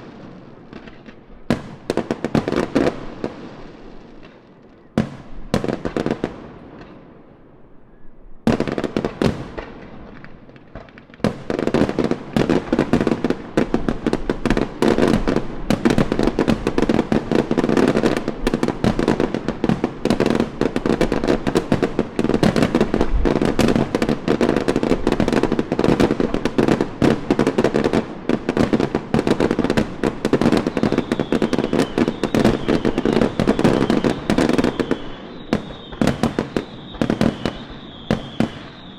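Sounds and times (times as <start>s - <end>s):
fireworks bangs and crackles: 0.0s - 7.5s, 8.4s - 38.9s.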